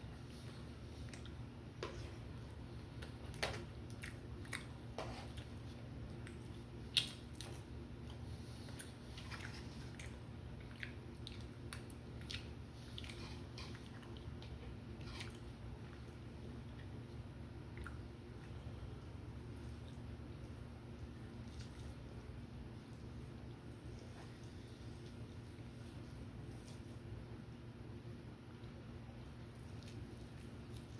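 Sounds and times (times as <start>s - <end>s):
person chewing food: 0.2s - 26.2s, 29.4s - 30.9s.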